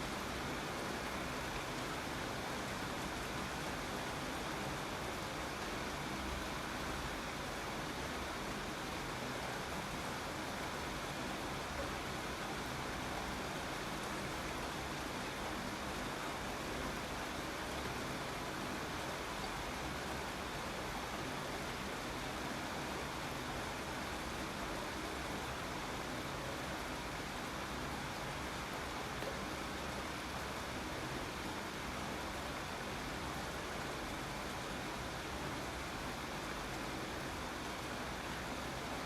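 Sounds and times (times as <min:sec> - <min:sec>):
steady rain hissing: 0:00.0 - 0:39.0.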